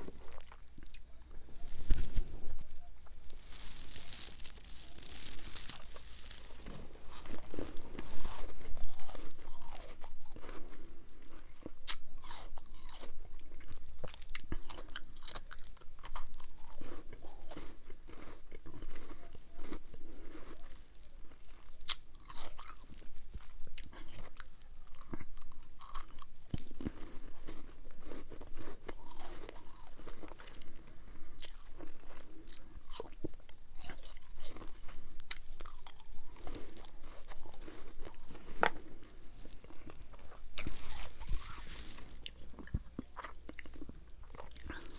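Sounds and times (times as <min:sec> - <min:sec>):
chewing ice crunching: 0:00.0 - 0:44.9.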